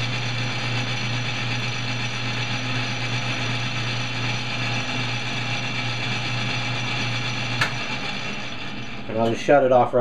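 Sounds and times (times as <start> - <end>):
metal lathe running: 0.0 - 10.0.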